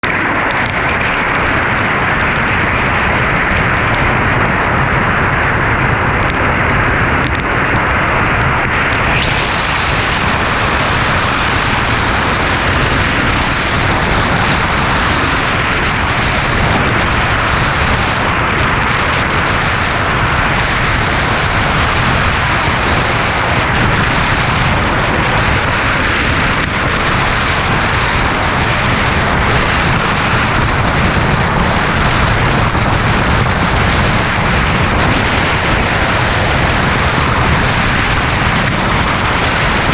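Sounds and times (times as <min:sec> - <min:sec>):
heavy rain: 0:00.0 - 0:39.9
hurricane wind: 0:00.0 - 0:39.9.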